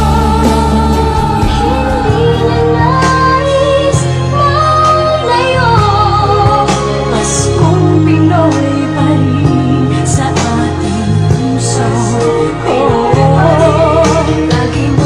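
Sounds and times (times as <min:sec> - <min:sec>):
bass and instrumental backing: 0:00.0 - 0:15.0
woman singing slow melody: 0:00.0 - 0:15.0.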